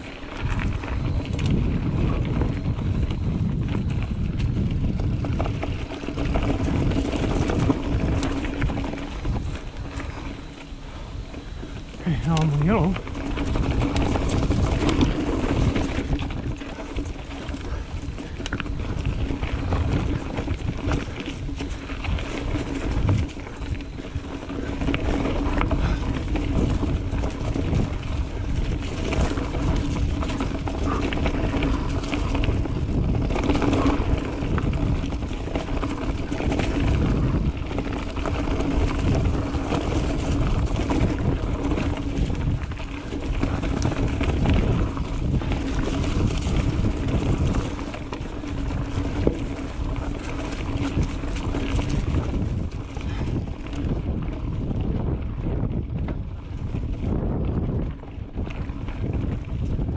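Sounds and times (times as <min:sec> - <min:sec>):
bike rattling over bumps: 0:00.0 - 0:59.9
bike tyre noise: 0:00.0 - 0:59.9
wind buffeting microphone: 0:00.0 - 0:59.9.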